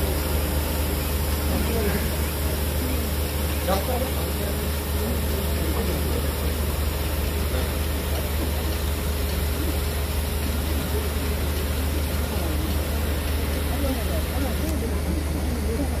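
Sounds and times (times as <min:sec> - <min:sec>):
sprayer engine rumble: 0:00.0 - 0:16.0.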